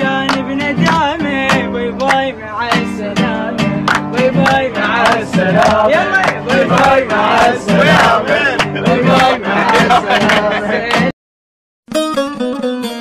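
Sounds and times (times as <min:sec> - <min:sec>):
acoustic guitar strumming: 0:00.0 - 0:11.1, 0:11.9 - 0:13.0
man singing: 0:00.0 - 0:11.1
voices singing along: 0:00.0 - 0:11.1.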